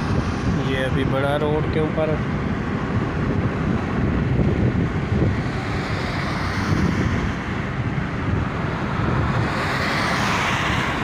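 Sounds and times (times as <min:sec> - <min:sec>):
road noise inside car: 0:00.0 - 0:11.0
wind buffeting microphone: 0:00.0 - 0:11.0.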